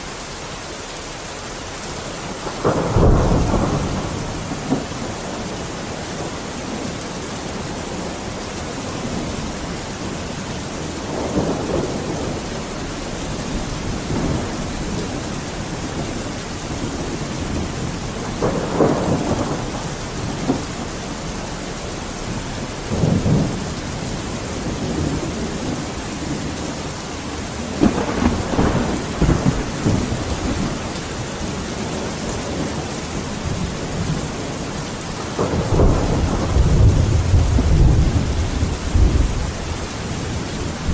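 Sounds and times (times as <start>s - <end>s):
heavy rain hissing: 0.0s - 40.9s
thunder rumbling: 2.3s - 40.9s.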